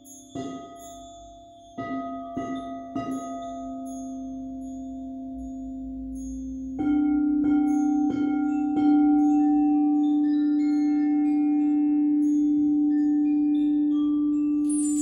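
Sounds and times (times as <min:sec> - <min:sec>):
high tinkling notes: 0:00.0 - 0:15.0
singing bowl ringing: 0:00.0 - 0:15.0.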